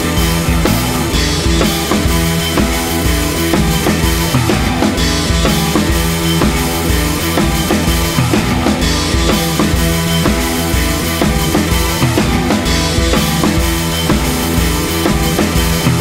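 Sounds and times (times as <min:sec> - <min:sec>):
drum kit steady beat: 0:00.0 - 0:16.0.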